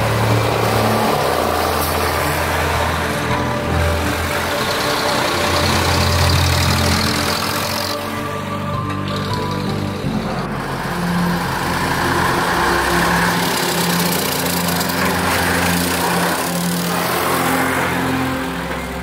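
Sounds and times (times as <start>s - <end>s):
background music: 0.0s - 19.0s
diesel tractor driving past: 0.0s - 19.0s.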